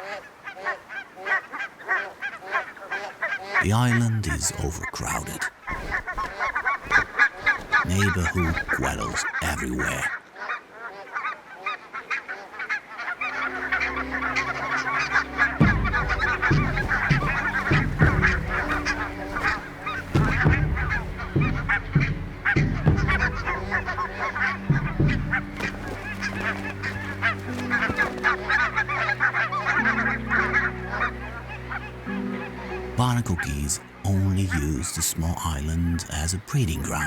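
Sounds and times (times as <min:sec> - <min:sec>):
geese honking: 0:00.0 - 0:10.2, 0:12.2 - 0:37.0.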